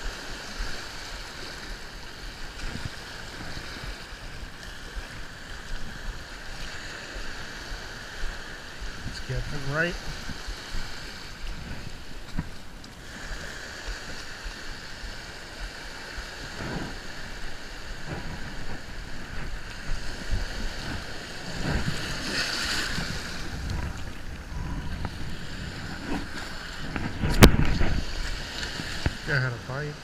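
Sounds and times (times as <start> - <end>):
wind buffeting microphone: 0.0 - 29.7
surf waves washing on sand: 0.0 - 30.0.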